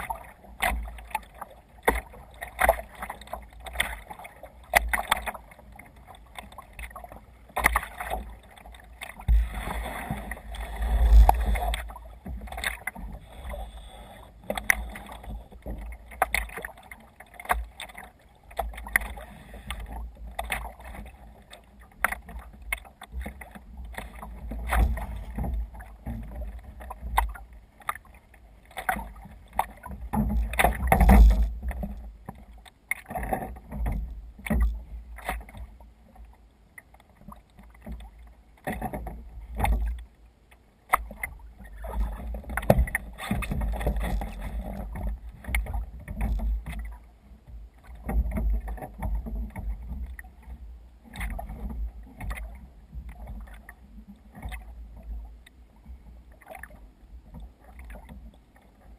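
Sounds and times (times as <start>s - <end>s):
water splashing against kayak hull: 0.0s - 58.9s.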